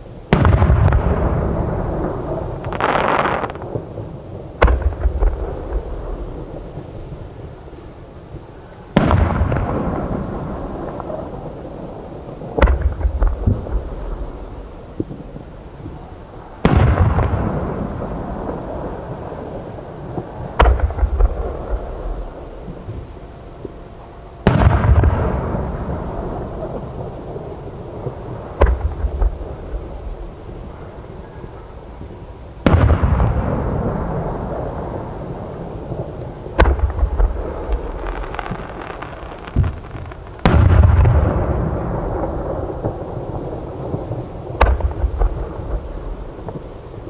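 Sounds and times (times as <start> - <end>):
firework booms with echoing rumble: 0.0 - 7.6, 8.9 - 30.8, 32.6 - 47.0.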